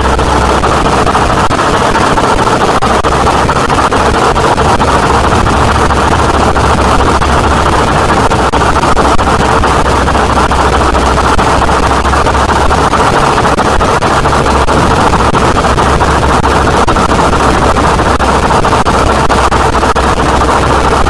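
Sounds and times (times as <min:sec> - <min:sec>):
distorted harsh noise music: 0:00.0 - 0:21.0
steady low drone: 0:00.0 - 0:21.0.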